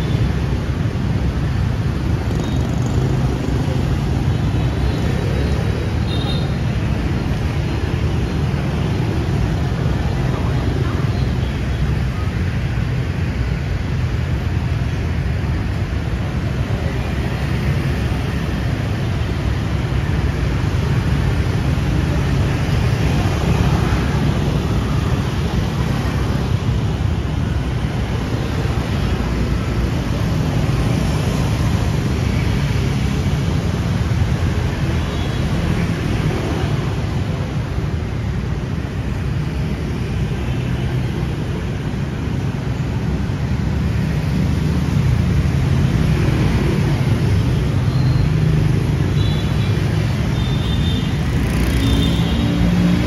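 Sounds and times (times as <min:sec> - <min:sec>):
city street traffic: 0:00.0 - 0:53.0.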